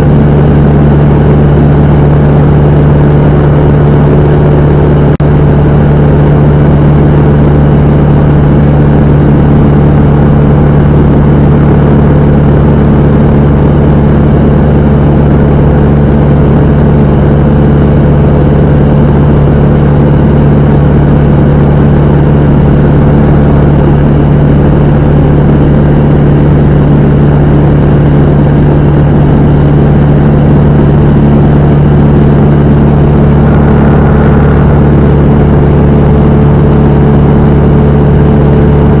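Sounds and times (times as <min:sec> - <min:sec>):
light aircraft engine drone: 0:00.0 - 0:39.0.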